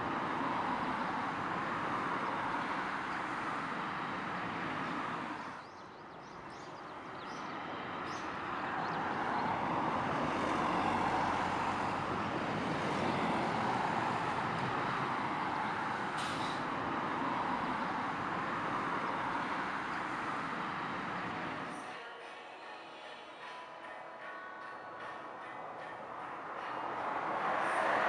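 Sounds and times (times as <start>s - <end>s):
steady outdoor rushing noise: 0.0s - 21.9s, 25.0s - 28.0s.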